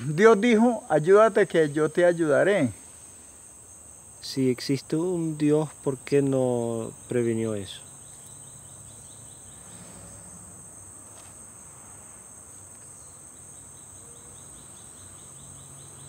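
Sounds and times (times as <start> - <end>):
faint pulsing insect trill: 0.0 - 16.0
insects buzzing: 0.0 - 16.0.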